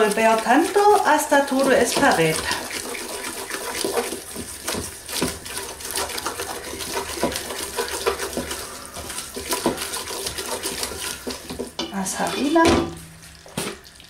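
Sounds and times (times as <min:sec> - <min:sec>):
wooden spoon scraping a pot: 0:00.0 - 0:12.7
roux frying hiss: 0:00.0 - 0:14.0.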